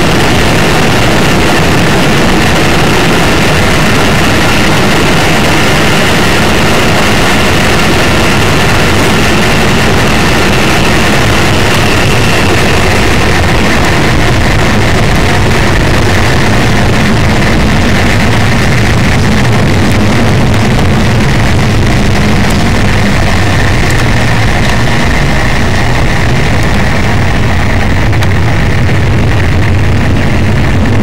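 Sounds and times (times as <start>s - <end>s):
distorted missile launch roar: 0.0s - 31.0s.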